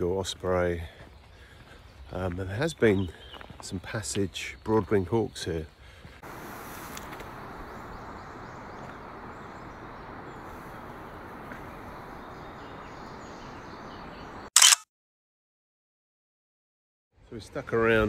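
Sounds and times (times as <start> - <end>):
outdoor background rush: 0.0 - 14.5.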